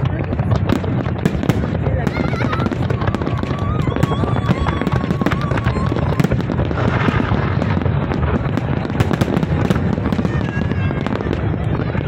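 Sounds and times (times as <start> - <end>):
fireworks bursting and crackling: 0.0 - 12.0
heavy low rumble: 0.0 - 12.0.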